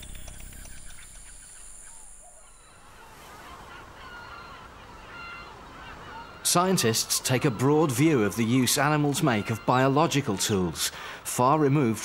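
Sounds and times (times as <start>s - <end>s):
short bird calls: 0.0s - 10.5s.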